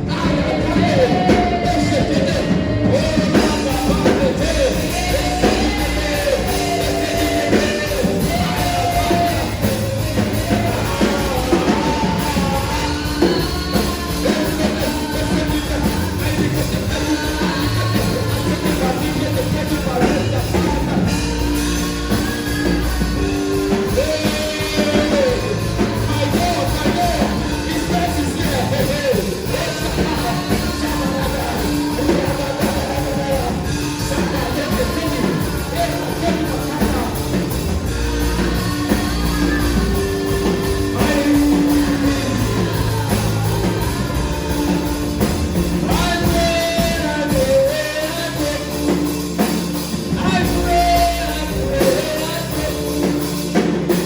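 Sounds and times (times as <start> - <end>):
band with drums and guitar: 0.0 - 54.0
person singing: 0.0 - 54.0.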